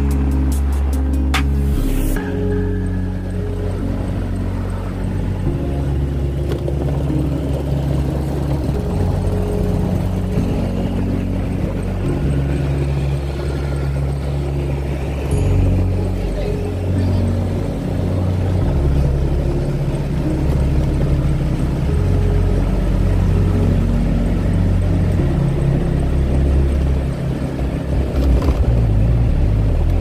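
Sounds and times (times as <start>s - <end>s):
motorbike engine running: 0.0s - 30.0s
road and wind noise: 0.0s - 30.0s.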